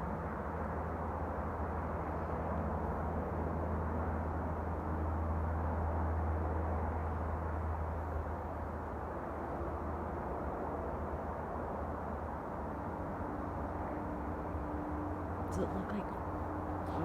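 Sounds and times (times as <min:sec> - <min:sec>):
low mechanical drone overhead: 0:00.0 - 0:17.0.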